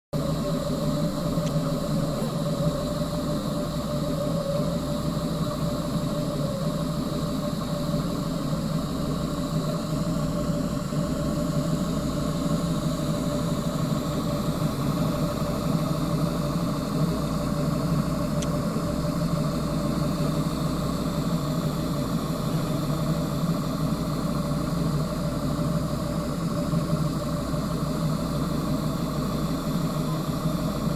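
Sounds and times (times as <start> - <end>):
three d printer motors humming: 0.2 - 30.9.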